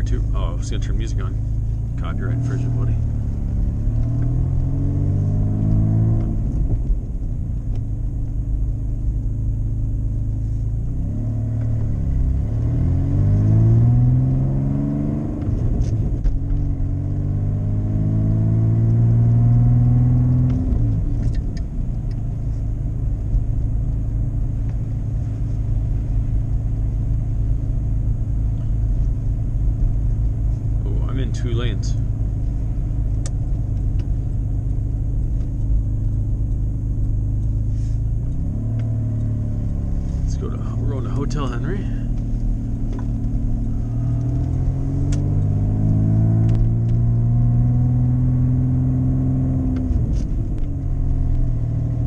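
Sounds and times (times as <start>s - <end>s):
car engine accelerating: 0.0s - 52.0s.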